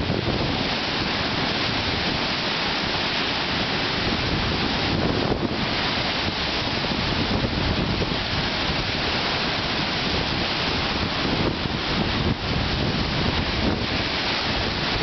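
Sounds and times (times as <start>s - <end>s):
lake waves splashing against dock: 0.0s - 15.0s
wind buffeting microphone: 0.0s - 15.0s.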